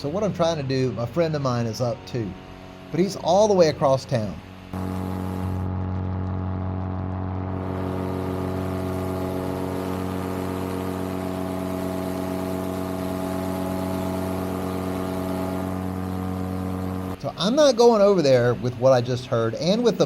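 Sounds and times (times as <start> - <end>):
paramotor engine droning: 0.0 - 20.0.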